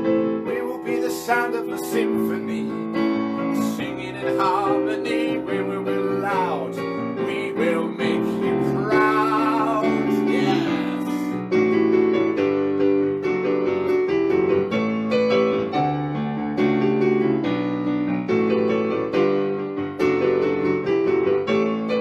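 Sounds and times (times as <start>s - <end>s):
electric piano playing chords: 0.0s - 22.0s.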